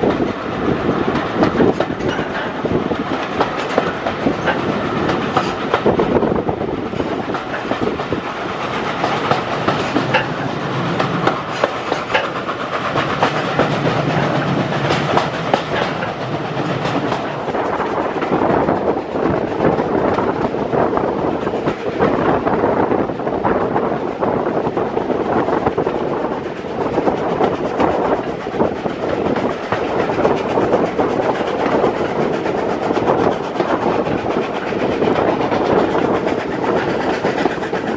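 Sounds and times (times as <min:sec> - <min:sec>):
rumble of train wheels: 0:00.0 - 0:37.9.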